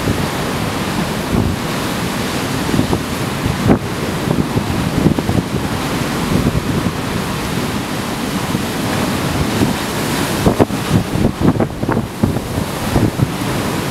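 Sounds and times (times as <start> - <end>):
surf breaking on a wall: 0.0 - 13.9
wind blowing on microphone: 0.0 - 13.9.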